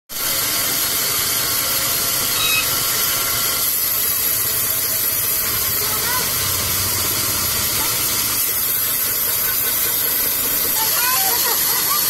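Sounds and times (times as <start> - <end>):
band saw running: 0.1 - 12.0.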